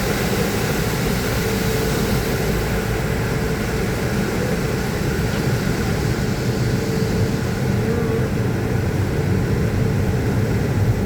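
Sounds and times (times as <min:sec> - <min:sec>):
car wash machinery drone: 0:00.0 - 0:11.0.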